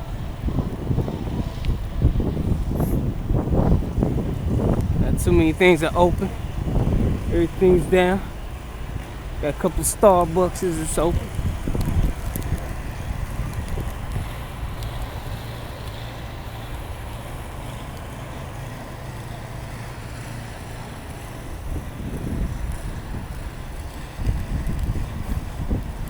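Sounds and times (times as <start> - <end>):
vehicle engine rumbling: 0.0 - 26.0
wind buffeting microphone: 0.0 - 26.0.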